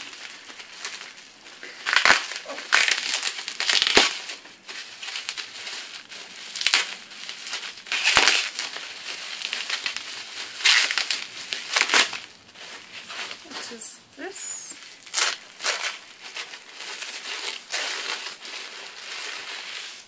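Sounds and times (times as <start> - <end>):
wrapping paper crinkling: 0.0 - 20.0.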